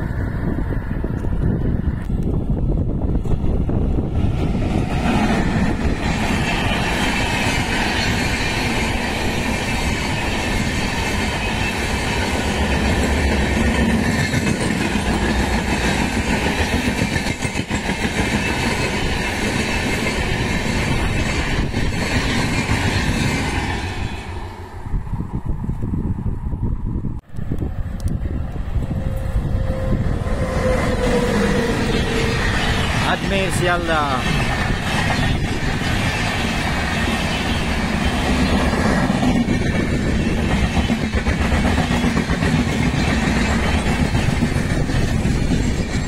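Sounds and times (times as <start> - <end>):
train wheels rushing on rails: 0.0 - 25.6, 27.2 - 46.0.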